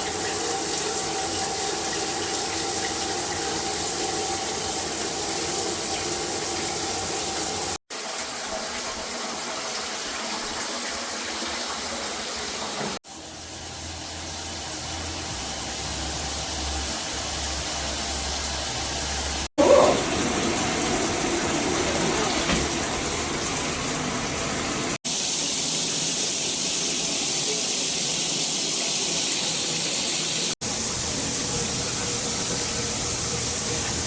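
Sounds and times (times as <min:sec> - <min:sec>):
shower water spraying: 0:00.0 - 0:34.0.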